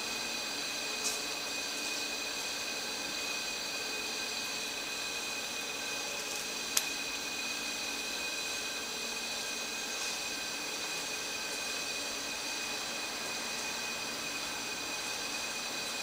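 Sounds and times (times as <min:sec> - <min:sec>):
mechanical whir and hiss: 0:00.0 - 0:16.0.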